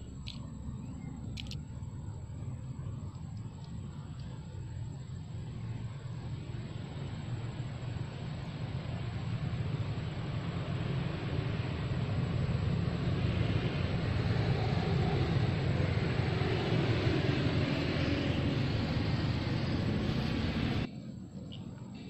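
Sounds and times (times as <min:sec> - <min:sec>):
steady low rumbling: 0:00.0 - 0:22.0.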